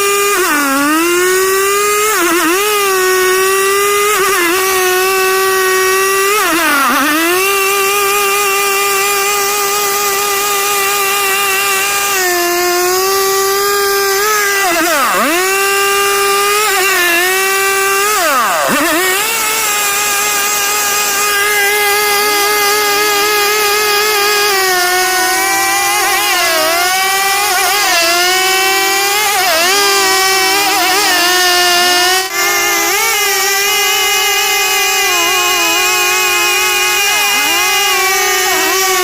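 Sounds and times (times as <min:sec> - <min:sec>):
chainsaw cutting timber: 0:00.0 - 0:39.0.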